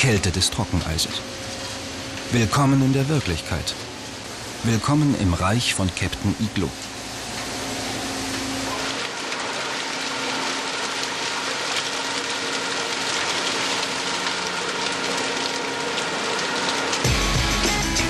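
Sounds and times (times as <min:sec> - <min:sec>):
running water: 0:00.0 - 0:17.1
constant hum: 0:00.0 - 0:18.0
fish-processing machinery din: 0:00.0 - 0:18.0.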